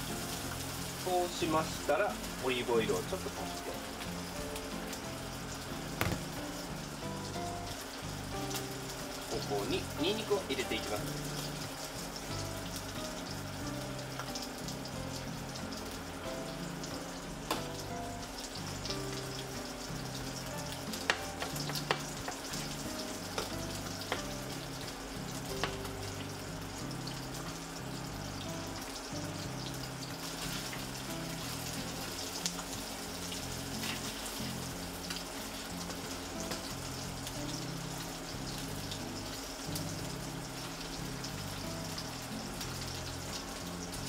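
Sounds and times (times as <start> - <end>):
garlic sizzling in oil: 0.0 - 44.0.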